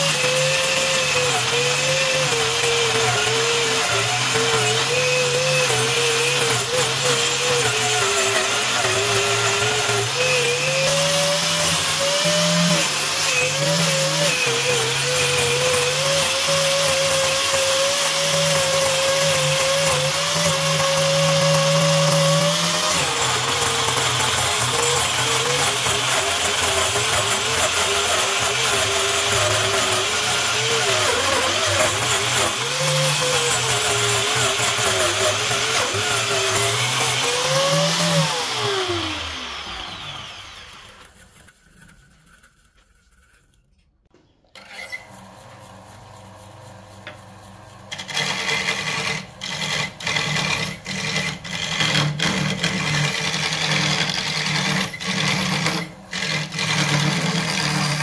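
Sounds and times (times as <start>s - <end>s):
angle grinder on spinning wood: 0.0s - 43.2s, 44.6s - 58.0s
turning tool cutting wood: 0.0s - 43.5s, 44.5s - 58.0s.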